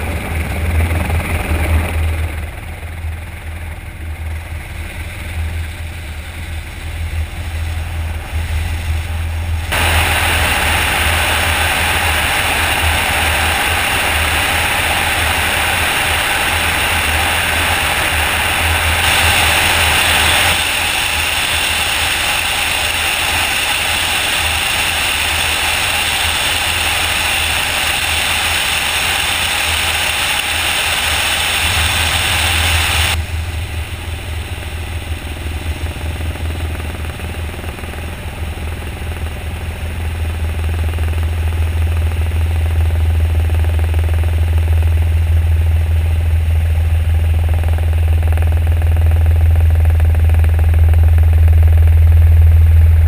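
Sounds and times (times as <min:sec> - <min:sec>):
helicopter rotor thrum: 0:00.0 - 0:53.0
rush of air: 0:04.1 - 0:53.0.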